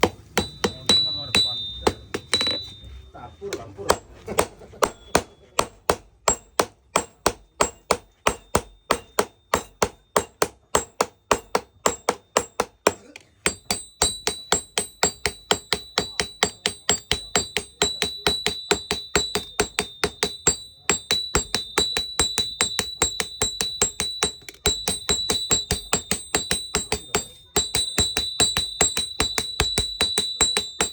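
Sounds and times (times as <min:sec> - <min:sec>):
hammer striking metal on anvil: 0:00.0 - 0:30.9.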